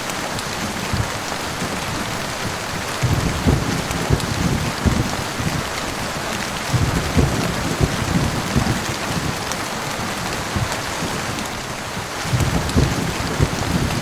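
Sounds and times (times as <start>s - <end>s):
heavy rain hissing: 0.0s - 14.0s
low rolling thunder: 0.3s - 14.0s.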